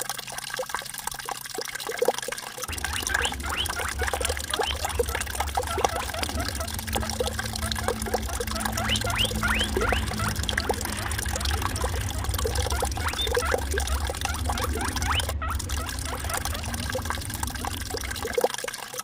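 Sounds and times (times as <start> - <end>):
water trickling over rocks: 0.0 - 19.0
low rumble: 2.7 - 18.4.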